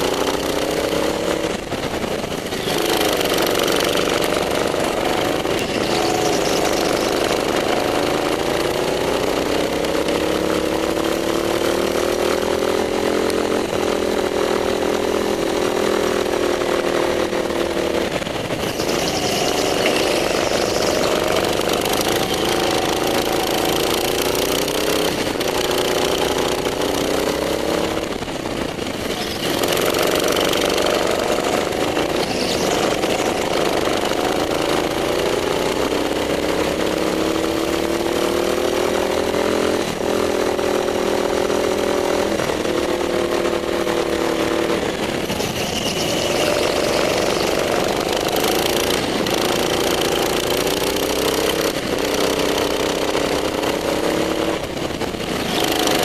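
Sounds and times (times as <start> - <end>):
go-kart engine running hard: 0.0 - 56.0.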